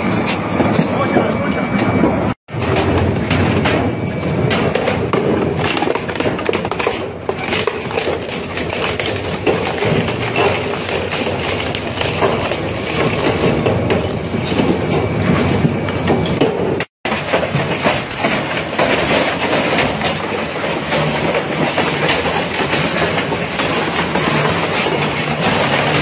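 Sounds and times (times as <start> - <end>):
shredder crunching metal: 2.5 - 26.0.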